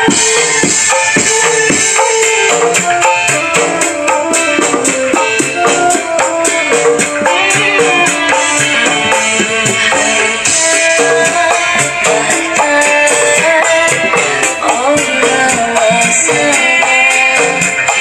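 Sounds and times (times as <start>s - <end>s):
fast drum beat on phone app: 0.0s - 18.0s.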